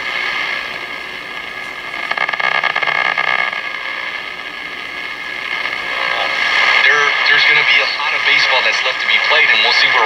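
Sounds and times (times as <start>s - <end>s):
radio crackling: 0.0s - 10.0s
radio static and hiss: 0.0s - 10.0s.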